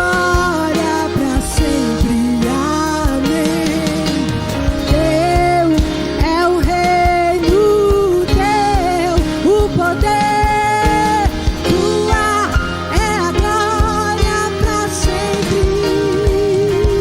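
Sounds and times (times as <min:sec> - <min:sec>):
band playing with drum beat: 0:00.0 - 0:17.0
person singing long notes: 0:00.0 - 0:17.0.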